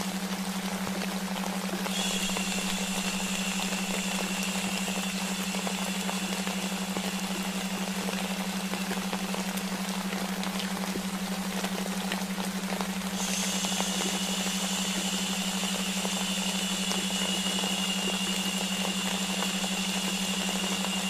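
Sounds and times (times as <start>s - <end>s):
white-noise hiss: 0.0s - 21.0s
low drone tone: 1.4s - 21.0s
higher hiss: 1.6s - 21.0s.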